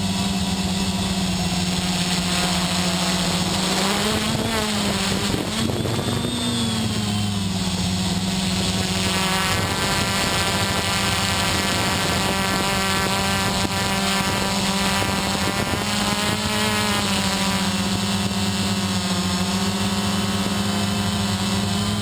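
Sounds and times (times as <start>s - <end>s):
quadcopter motors and propellers: 0.0s - 22.0s.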